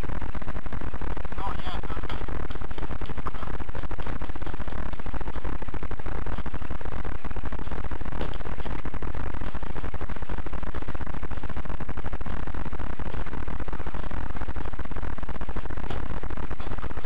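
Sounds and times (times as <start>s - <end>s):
electrical buzz and crackle: 0.0s - 17.0s.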